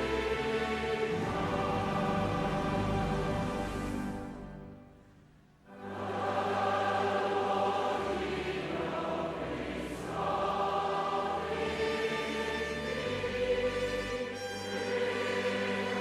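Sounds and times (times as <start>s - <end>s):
choir singing a hymn: 0.0s - 4.4s, 5.7s - 16.0s.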